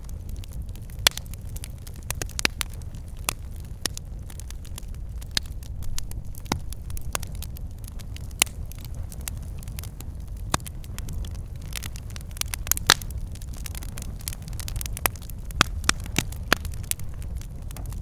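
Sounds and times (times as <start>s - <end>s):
campfire rumble: 0.0s - 18.0s
wood crackling and popping: 0.0s - 18.0s.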